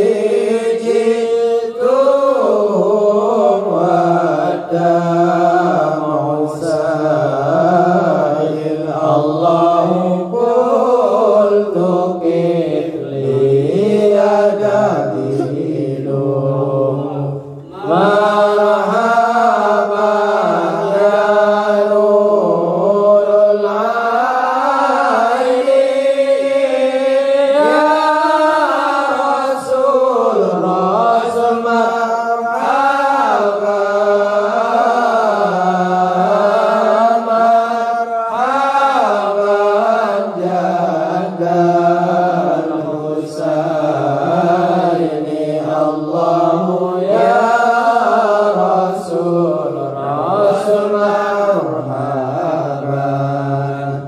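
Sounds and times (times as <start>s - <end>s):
lead voice singing into microphone: 0.0s - 44.5s
men chanting: 0.0s - 54.0s.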